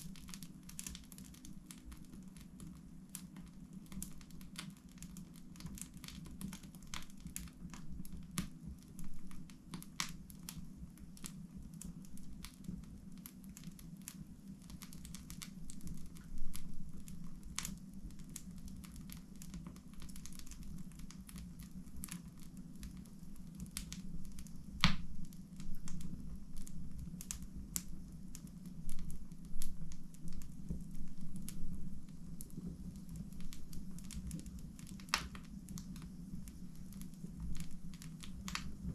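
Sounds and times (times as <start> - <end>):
wood fire crackling and popping: 0.0 - 38.9
steady low hum: 6.3 - 38.9.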